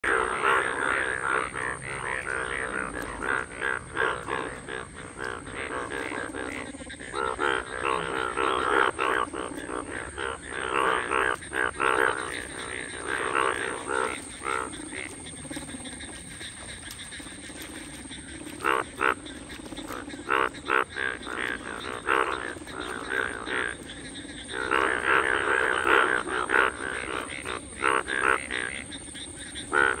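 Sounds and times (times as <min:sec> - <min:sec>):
frog chorus croaking: 0:00.0 - 0:30.0.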